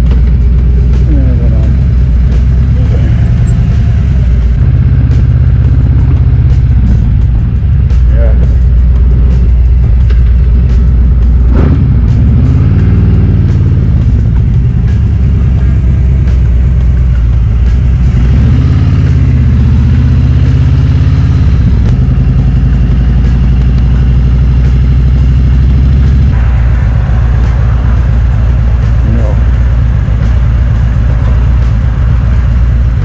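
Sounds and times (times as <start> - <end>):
vehicle engine accelerating: 0.0 - 33.0.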